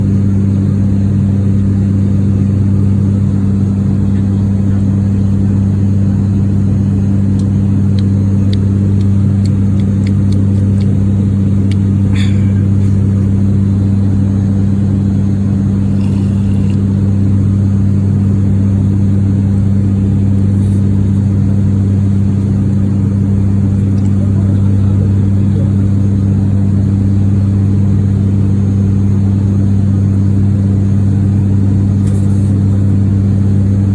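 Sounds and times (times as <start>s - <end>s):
propeller drone in aircraft cabin: 0.0s - 33.9s.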